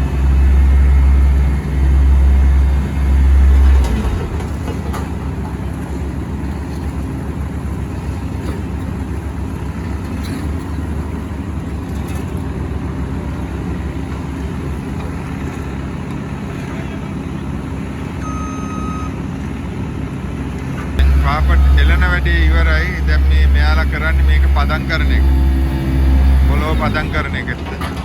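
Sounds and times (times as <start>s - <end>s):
deep diesel engine rumble: 0.0s - 28.0s
steady engine drone: 0.0s - 28.0s.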